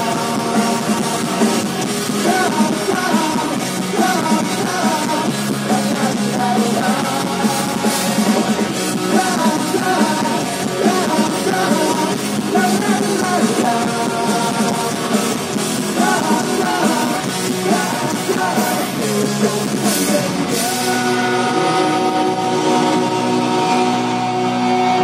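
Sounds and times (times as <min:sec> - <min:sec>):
live punk rock band: 0:00.0 - 0:25.0
person singing: 0:00.0 - 0:25.0.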